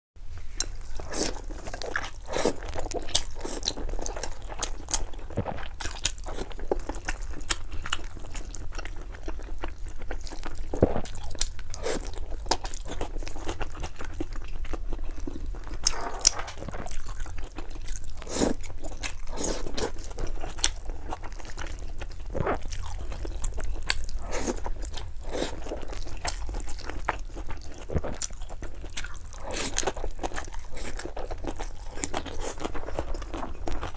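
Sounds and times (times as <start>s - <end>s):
person chewing and crunching noodles: 0.5s - 33.9s.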